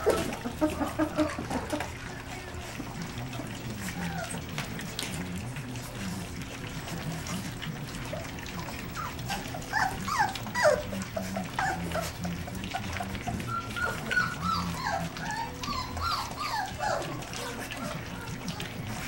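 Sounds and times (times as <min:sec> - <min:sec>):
puppies whimpering: 0:00.0 - 0:19.0.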